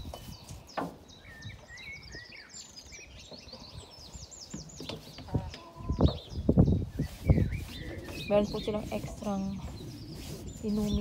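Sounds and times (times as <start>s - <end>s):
songbirds chirping and singing: 0.0s - 11.0s.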